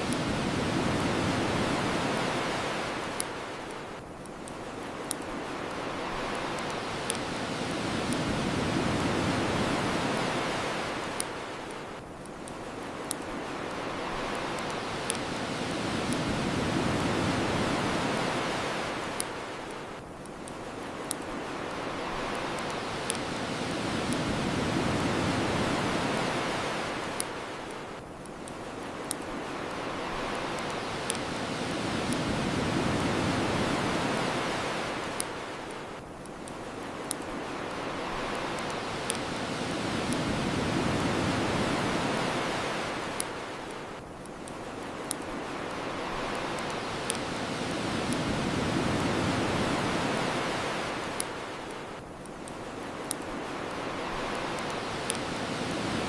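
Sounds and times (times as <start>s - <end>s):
bonfire crackling: 0.0s - 56.0s
ocean waves washing onto shore: 0.0s - 56.0s.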